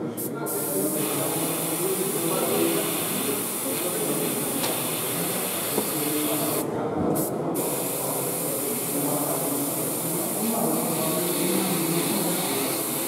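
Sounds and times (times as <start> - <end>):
airbrush hissing: 0.5 - 6.6, 7.6 - 13.0.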